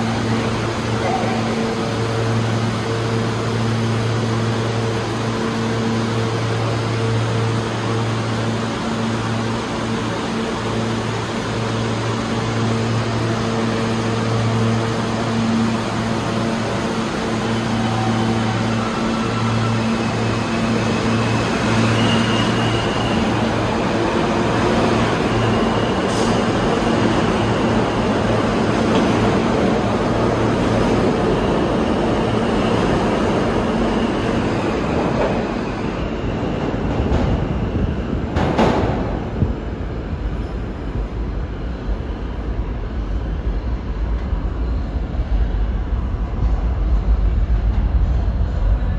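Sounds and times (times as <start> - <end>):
train wheel and rail noise: 0.0 - 48.9.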